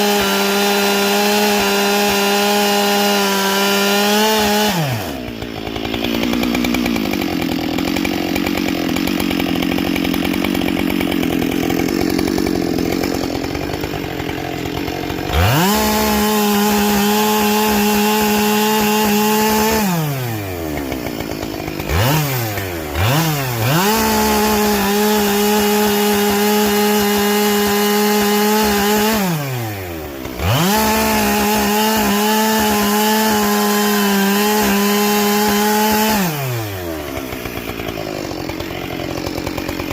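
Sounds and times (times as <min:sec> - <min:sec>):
chainsaw cutting at full throttle: 0:00.0 - 0:39.9
chainsaw revving and idling: 0:00.0 - 0:39.9.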